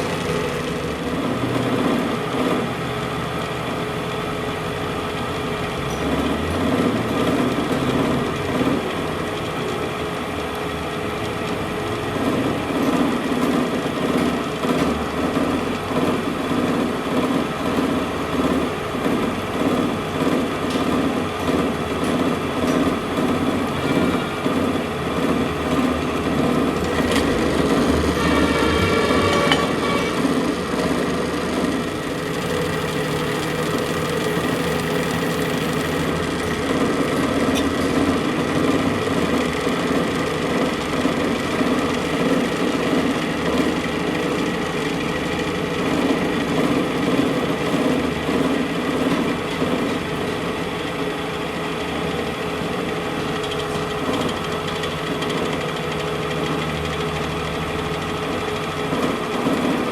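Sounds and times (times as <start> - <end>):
workshop machine humming: 0.0 - 59.9.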